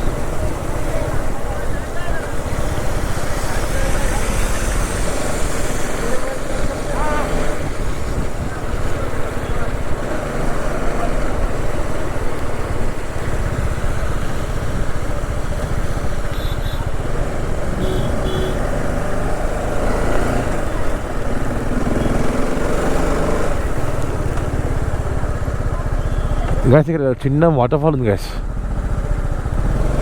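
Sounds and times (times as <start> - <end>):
motorcycle engine running: 0.0 - 30.0
road and wind noise: 0.0 - 30.0.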